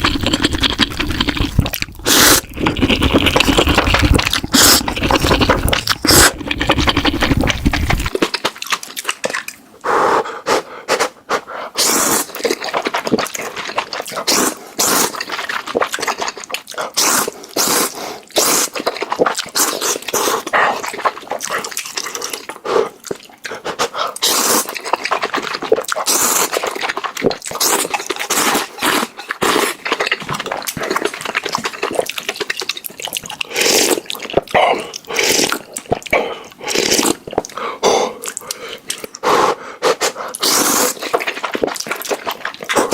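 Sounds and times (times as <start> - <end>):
chewing: 0.0 - 9.9, 11.8 - 42.9
slurping noodles: 0.0 - 42.9.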